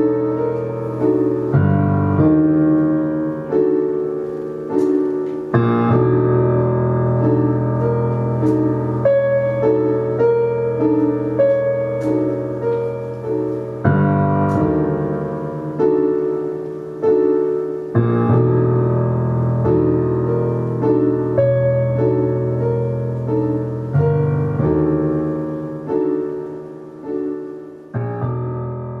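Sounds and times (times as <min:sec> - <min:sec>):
slow keyboard chords: 0:00.0 - 0:29.0.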